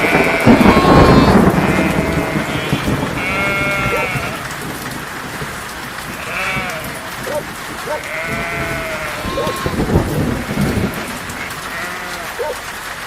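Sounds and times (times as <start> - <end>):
sheep bleating: 0.0 - 4.6, 6.1 - 12.6
rain pattering: 0.0 - 13.0.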